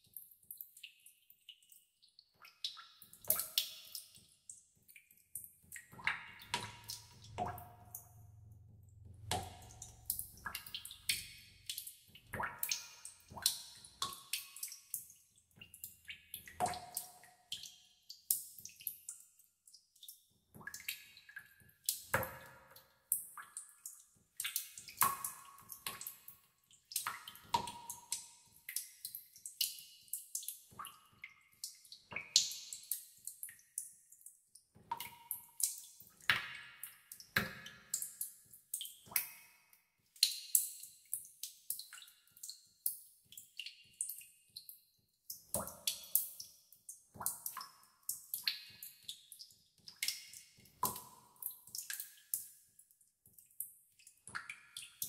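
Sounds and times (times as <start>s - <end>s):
water drops plinking in cave: 0.0s - 55.0s.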